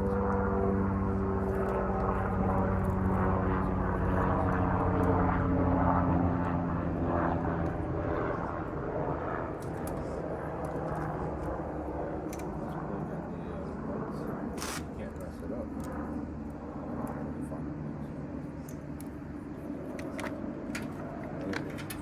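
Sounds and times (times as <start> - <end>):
distant engine droning: 0.0 - 22.0.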